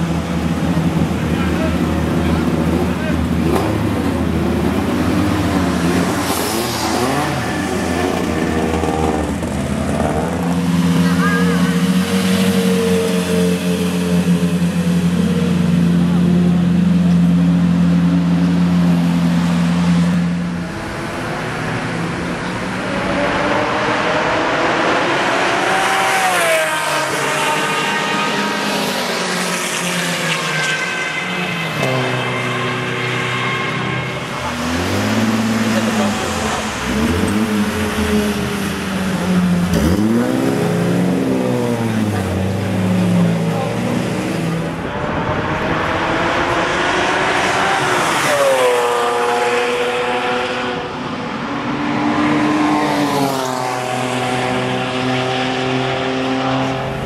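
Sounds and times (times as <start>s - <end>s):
sports car engines racing: 0.0s - 57.0s.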